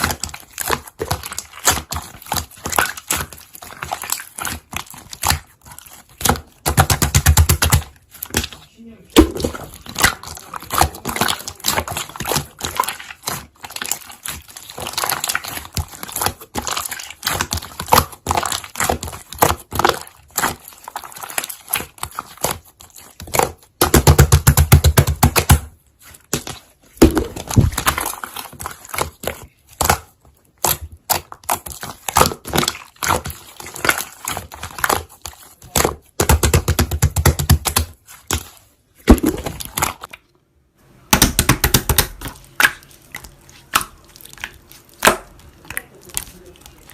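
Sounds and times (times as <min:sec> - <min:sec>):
slime crackling and popping: 0:00.0 - 0:46.9.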